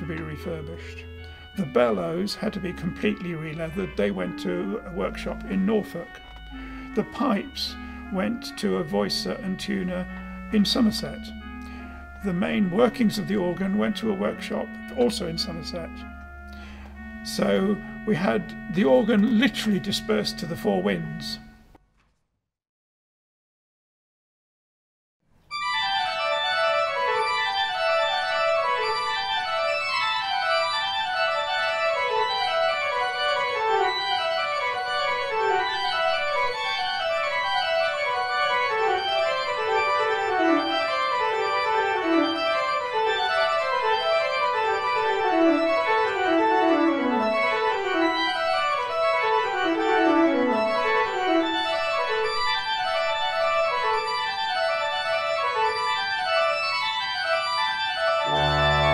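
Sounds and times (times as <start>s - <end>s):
organ music: 0.0s - 21.8s, 25.5s - 58.9s.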